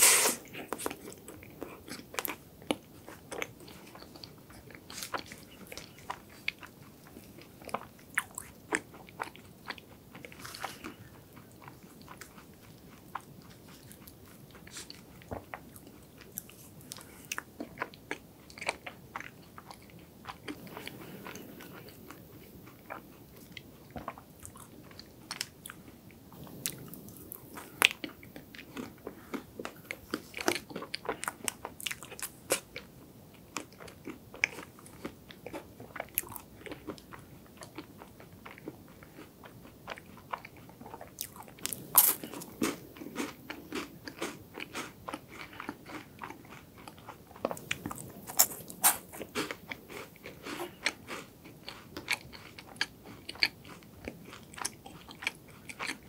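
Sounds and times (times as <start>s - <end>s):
wet chewing: 0.1s - 56.0s.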